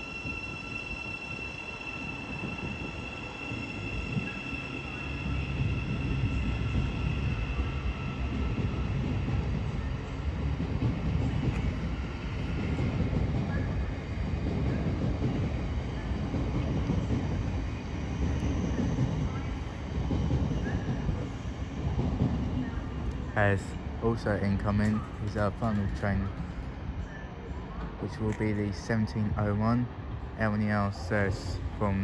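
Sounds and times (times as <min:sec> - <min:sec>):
train rumble: 0:01.4 - 0:32.0.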